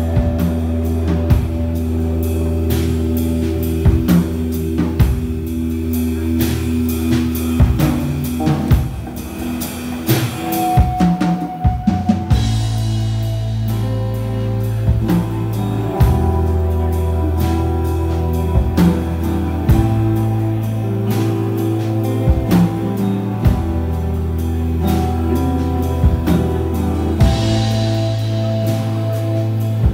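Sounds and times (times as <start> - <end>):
drum kit with cymbals and snare: 0.0 - 29.9
electric bass long low notes: 0.0 - 29.9
strummed guitars: 0.0 - 29.9.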